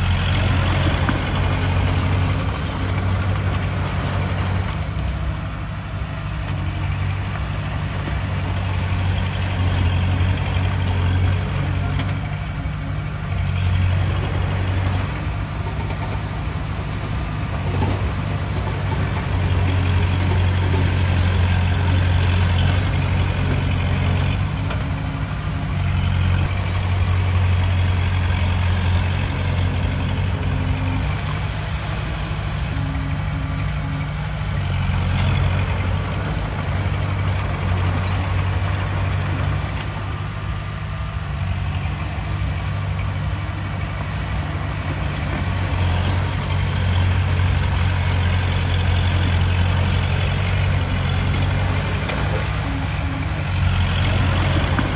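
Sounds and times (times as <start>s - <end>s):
heavy diesel engine droning: 0.0s - 54.9s.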